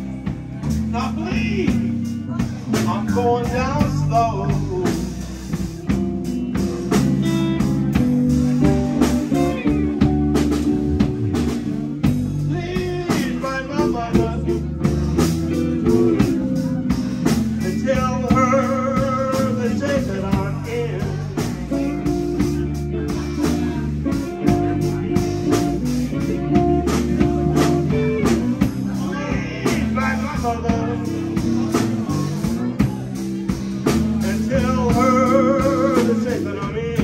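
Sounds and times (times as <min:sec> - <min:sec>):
drum kit: 0:00.0 - 0:37.0
electric bass guitar: 0:00.0 - 0:37.0
electric guitars: 0:00.0 - 0:37.0.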